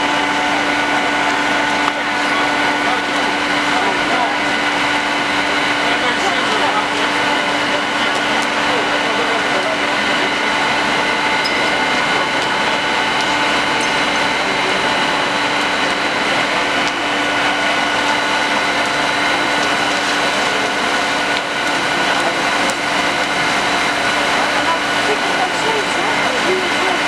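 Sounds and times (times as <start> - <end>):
fire engine pumps droning: 0.0 - 27.0.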